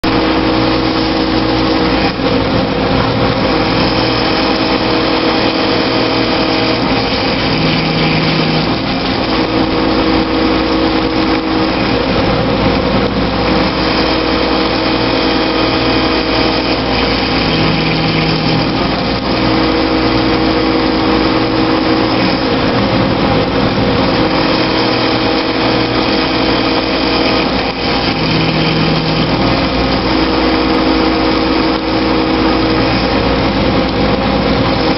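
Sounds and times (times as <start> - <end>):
machine tones: 0.0 - 12.4, 13.4 - 22.9, 23.7 - 33.4
milling machine cutting: 0.0 - 34.9.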